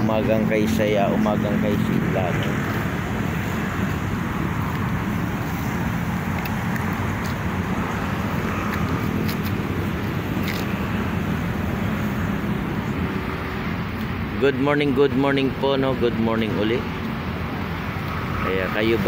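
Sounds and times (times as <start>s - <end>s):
low rumble of city ambience: 0.0s - 19.0s.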